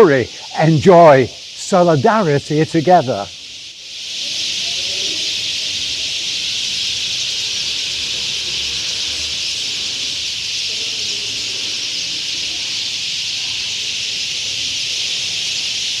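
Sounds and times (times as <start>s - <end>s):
flock of small birds chirping: 0.0s - 16.0s.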